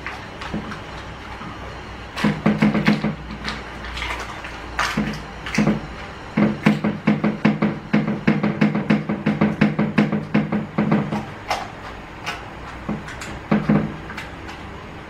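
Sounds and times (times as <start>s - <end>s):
hands patting pastry: 0.0s - 14.8s.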